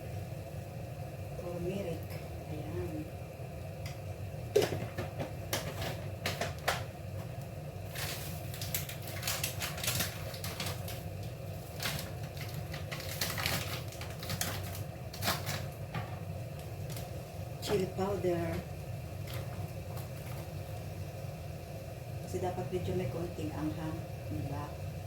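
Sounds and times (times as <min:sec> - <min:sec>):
beans roasting in a pan: 0:00.0 - 0:25.0
steady low hum: 0:00.0 - 0:25.0.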